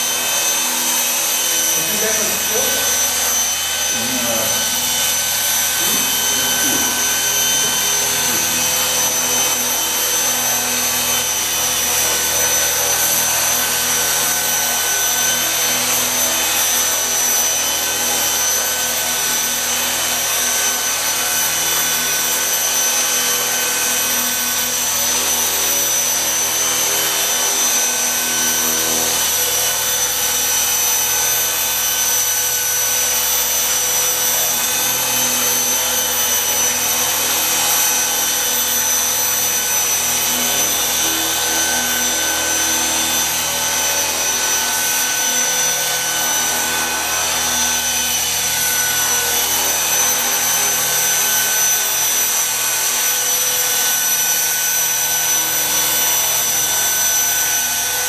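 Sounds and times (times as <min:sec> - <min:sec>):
rc helicopter rotor whine: 0:00.0 - 0:58.0.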